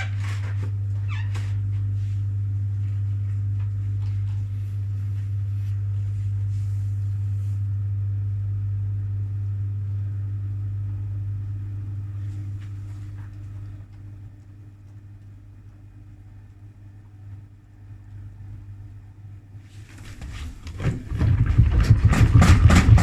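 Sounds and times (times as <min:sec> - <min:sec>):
washing machine spinning hum: 0:00.0 - 0:23.0.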